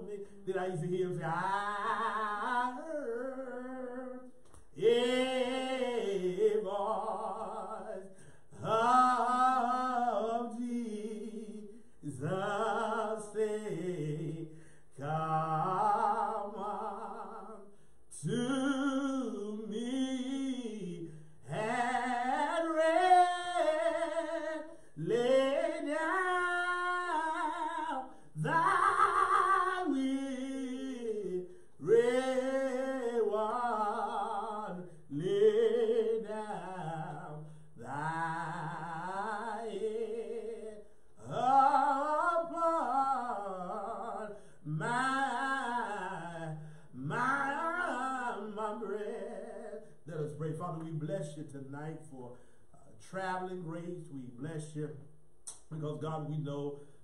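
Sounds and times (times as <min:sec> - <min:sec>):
man singing a hymn unaccompanied: 0:00.0 - 0:55.0, 0:55.6 - 0:57.0.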